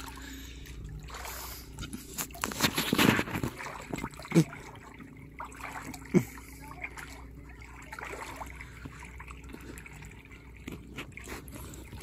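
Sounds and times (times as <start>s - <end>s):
light water splashes: 0.0s - 12.0s
seawater trickling: 0.0s - 12.0s.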